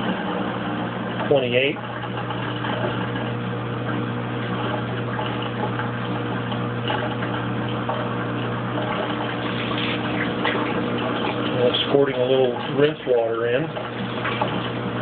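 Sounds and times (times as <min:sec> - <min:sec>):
washing machine drain pump humming: 0:00.0 - 0:15.0
water draining: 0:00.0 - 0:15.0.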